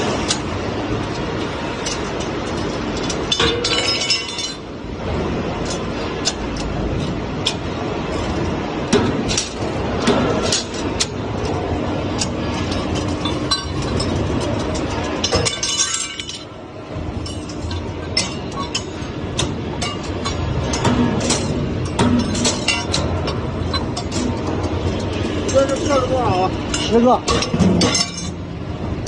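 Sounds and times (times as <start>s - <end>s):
machine running steadily: 0.0s - 29.0s.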